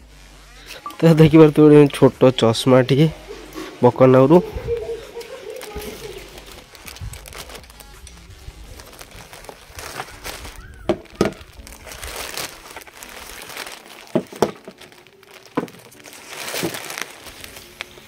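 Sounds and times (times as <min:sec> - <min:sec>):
plastic bag and bubble wrap crinkling: 0:00.0 - 0:18.0.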